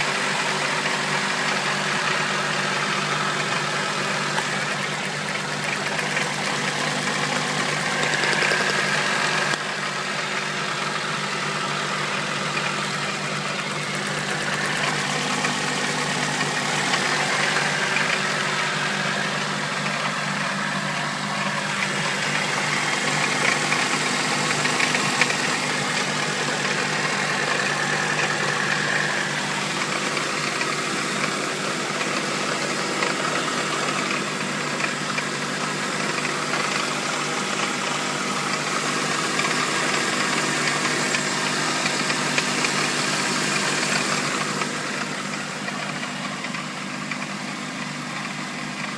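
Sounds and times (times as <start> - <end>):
car engine running: 0.0 - 48.9
engine knocking: 0.0 - 48.9.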